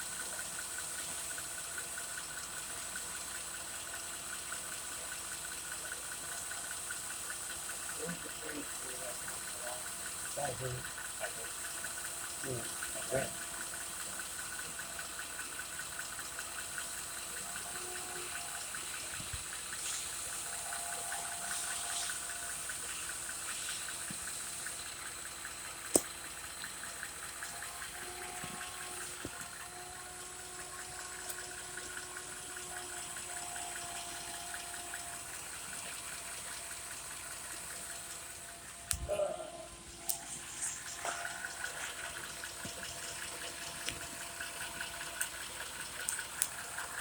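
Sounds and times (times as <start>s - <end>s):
engine idling with ticking: 0.0s - 47.0s.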